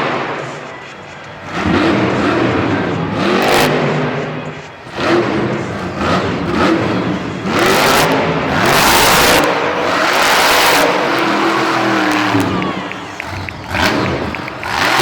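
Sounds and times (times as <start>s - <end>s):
monster truck engine revving: 1.3s - 15.0s.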